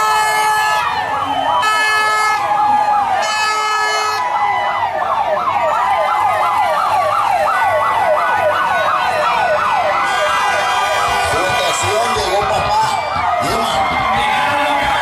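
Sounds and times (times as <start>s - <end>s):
steady siren tone: 0.0s - 15.0s
vehicle siren yelping: 0.0s - 15.0s.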